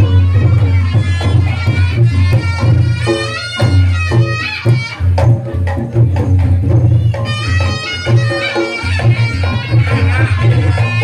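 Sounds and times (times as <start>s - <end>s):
drums beating lively rhythm: 0.0s - 11.0s
shawm playing bending melody: 0.0s - 11.0s.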